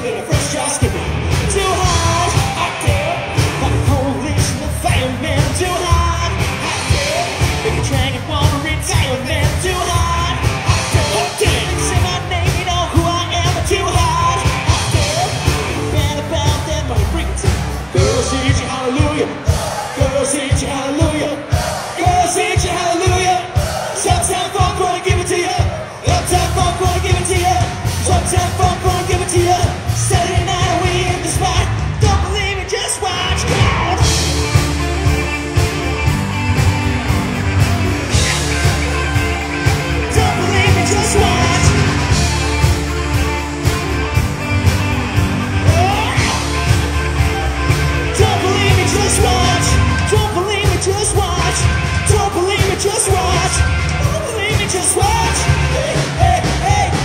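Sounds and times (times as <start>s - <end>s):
man singing: 0.0s - 36.1s, 38.0s - 43.8s, 45.5s - 57.0s
pop-rock band music: 0.0s - 57.0s.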